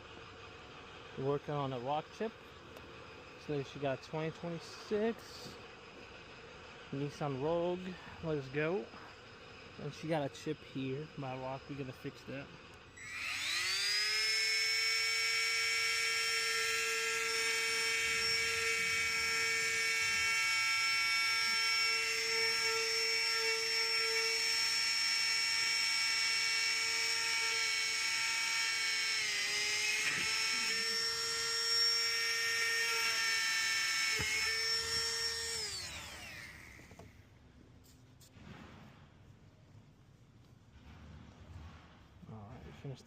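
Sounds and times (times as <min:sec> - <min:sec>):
small drill whining: 0:00.0 - 0:37.4.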